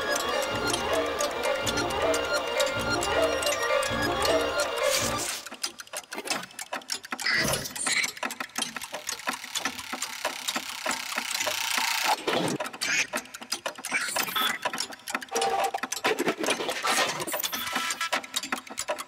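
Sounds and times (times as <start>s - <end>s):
fast mechanical clicking and rattling: 0.0s - 19.0s.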